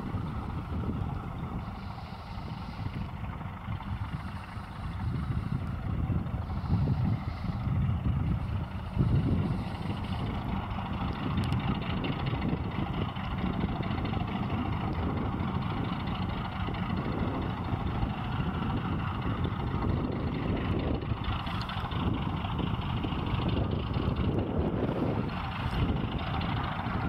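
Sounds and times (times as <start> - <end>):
diesel locomotive engine droning: 0.0 - 27.0.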